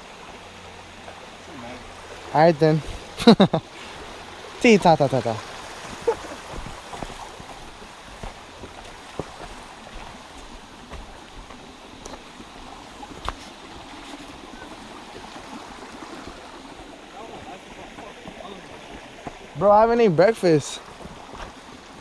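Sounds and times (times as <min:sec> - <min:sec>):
creek rushing: 0:00.0 - 0:22.0.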